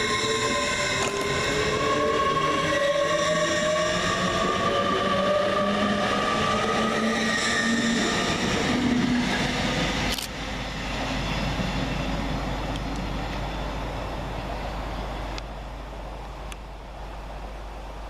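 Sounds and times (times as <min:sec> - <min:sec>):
train rumble: 0:00.0 - 0:18.0
train whine: 0:00.0 - 0:18.0.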